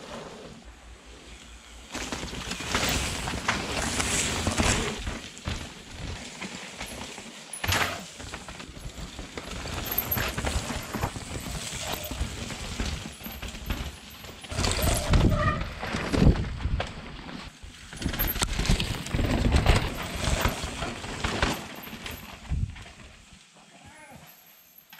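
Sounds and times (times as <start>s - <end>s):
bike knocking and rattling: 1.0s - 23.4s.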